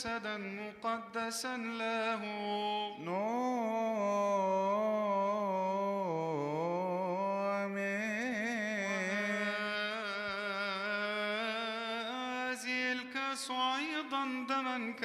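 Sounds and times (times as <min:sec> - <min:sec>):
man chanting melisma: 0:00.0 - 0:15.0.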